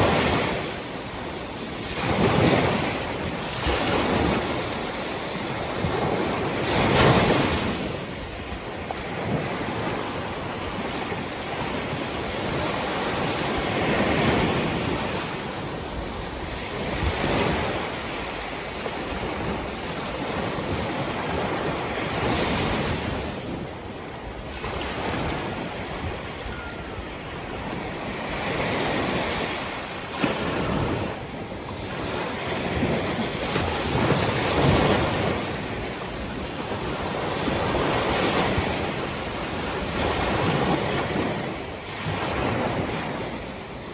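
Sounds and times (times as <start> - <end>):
ocean waves breaking: 0.0 - 43.9
wind noise on microphone: 0.0 - 43.9.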